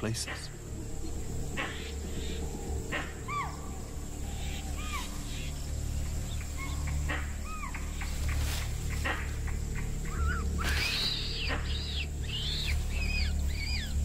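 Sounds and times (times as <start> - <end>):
low steady drone: 0.0 - 14.0
high yelping animal calls: 1.4 - 14.0.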